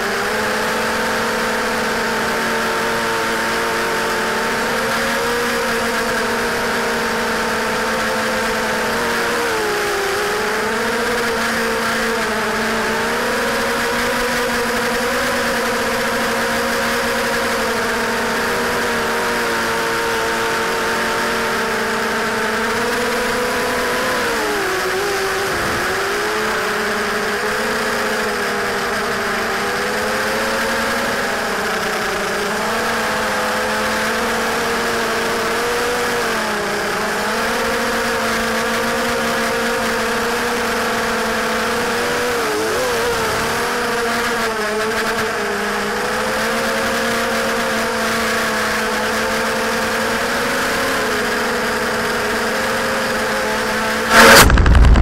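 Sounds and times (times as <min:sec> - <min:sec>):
quadcopter motors buzzing whine: 0:00.0 - 0:55.0.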